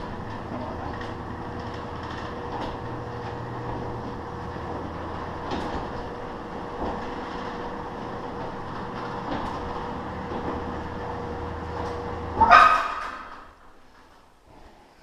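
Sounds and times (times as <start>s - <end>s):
garage door motor humming: 0.0s - 15.0s.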